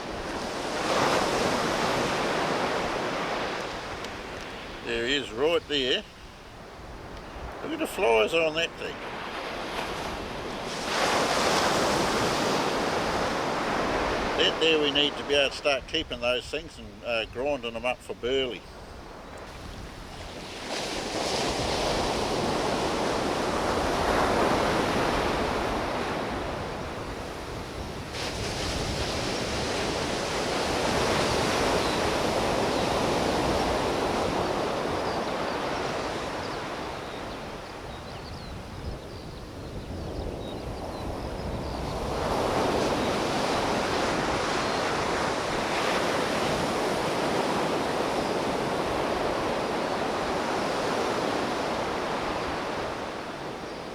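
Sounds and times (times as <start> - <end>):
ocean surf breaking: 0.0 - 38.8, 40.6 - 53.9.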